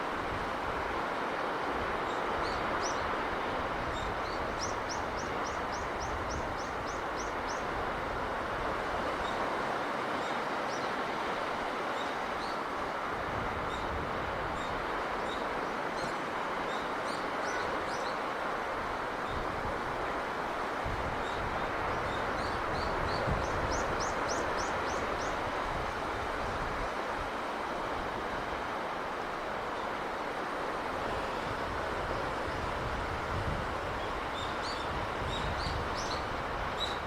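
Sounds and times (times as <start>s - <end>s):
rushing sea breeze: 0.0s - 37.0s.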